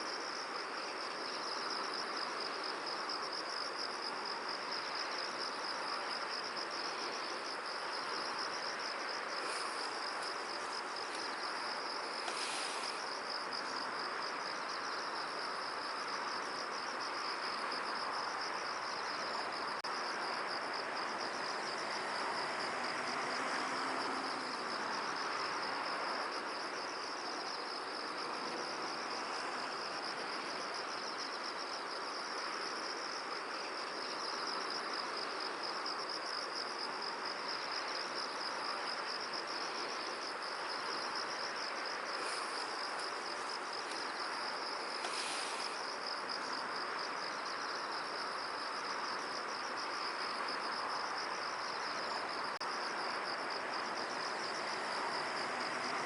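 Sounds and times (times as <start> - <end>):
insects trilling: 0.0 - 56.0
wind hiss: 0.0 - 56.0.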